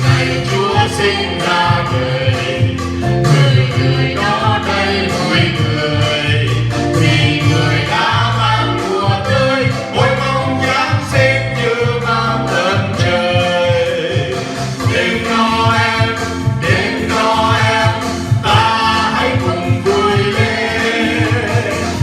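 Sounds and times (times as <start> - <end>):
instrumental accompaniment: 0.0 - 22.0
people singing: 0.0 - 22.0
pulsing bass line: 0.0 - 22.0.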